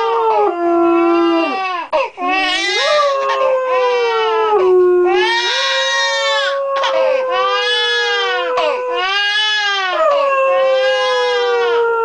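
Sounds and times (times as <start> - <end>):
infant crying: 0.0 - 11.9
dog howling: 0.0 - 12.0.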